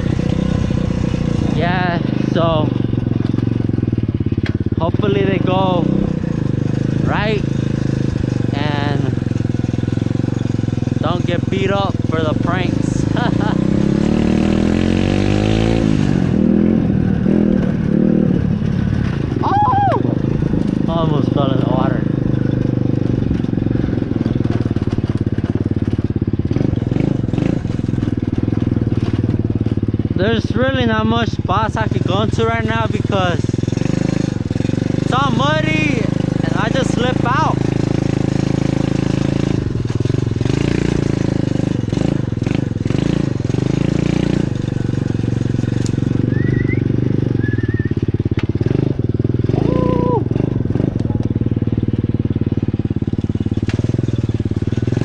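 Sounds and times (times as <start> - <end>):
pit bike engine running: 0.0 - 55.0.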